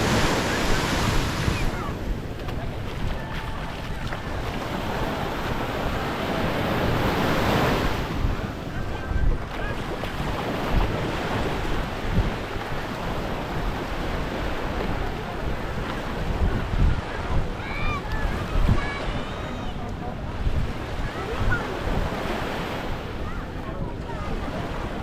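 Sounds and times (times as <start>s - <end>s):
small waves washing onto beach: 0.0s - 25.0s
wind gusting over microphone: 0.0s - 25.0s.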